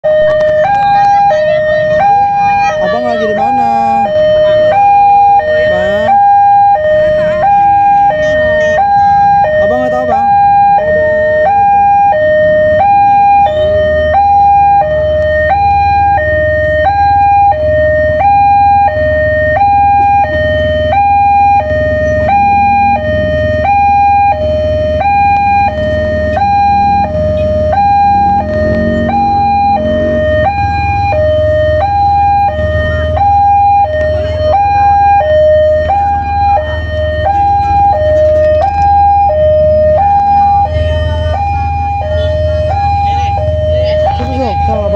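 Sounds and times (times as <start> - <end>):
two-tone crossing alarm: 0.0 - 44.9
low engine rumble: 0.1 - 44.9.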